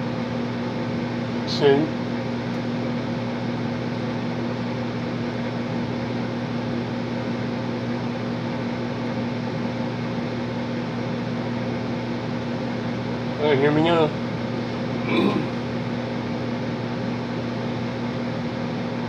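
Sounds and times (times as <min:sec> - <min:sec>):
furnace fan humming: 0:00.0 - 0:19.0.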